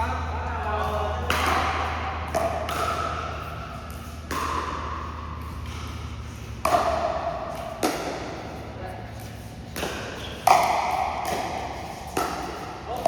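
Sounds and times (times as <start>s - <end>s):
ball bouncing: 0.0s - 13.0s.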